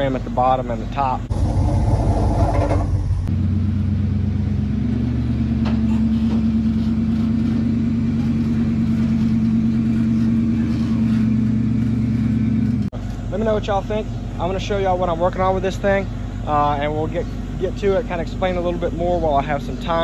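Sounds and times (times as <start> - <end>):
car engine running steadily: 0.0 - 20.0
different engine: 0.0 - 20.0.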